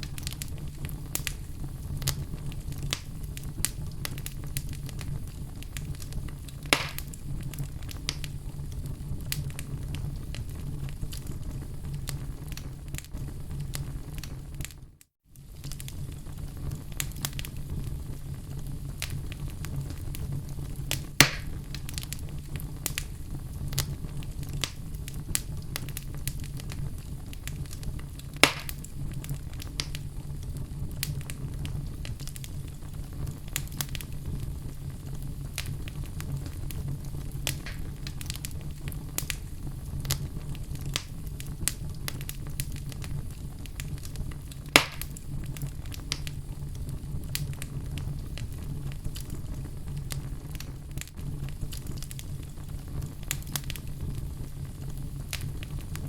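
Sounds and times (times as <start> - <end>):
fire crackling in fireplace: 0.0 - 56.0
fire popping: 0.0 - 56.0.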